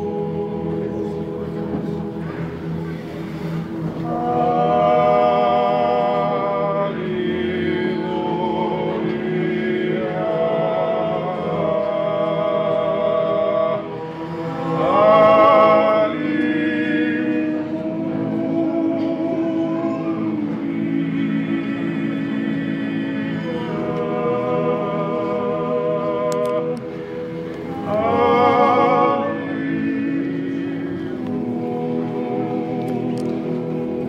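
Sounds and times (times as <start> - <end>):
male choir singing a cappella: 0.0 - 34.0.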